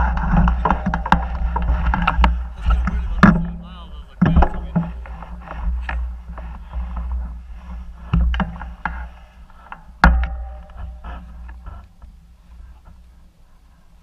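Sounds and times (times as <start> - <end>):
bike knocking and rattling: 0.0 - 14.0
wind and ground rumble: 0.0 - 14.0.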